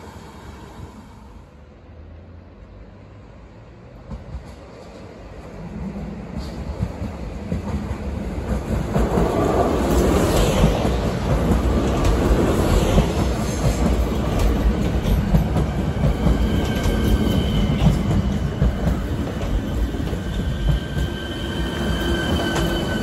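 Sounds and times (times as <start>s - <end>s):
train wheels rumbling on rail: 3.6s - 23.0s.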